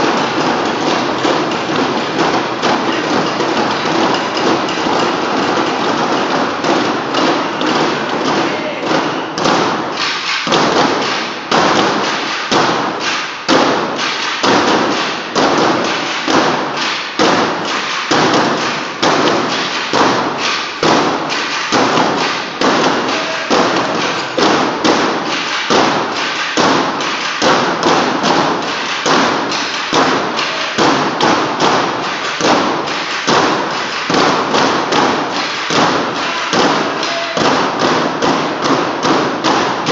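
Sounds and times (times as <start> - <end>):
broomsticks thudding on wooden stage: 0.0 - 39.9.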